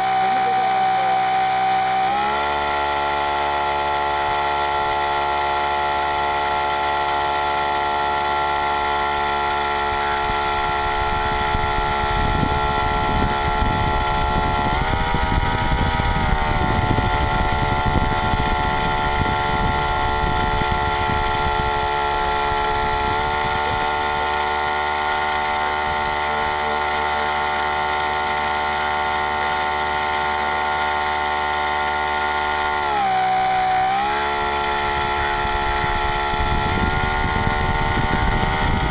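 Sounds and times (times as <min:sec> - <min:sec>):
model boat motor running: 0:00.0 - 0:38.9.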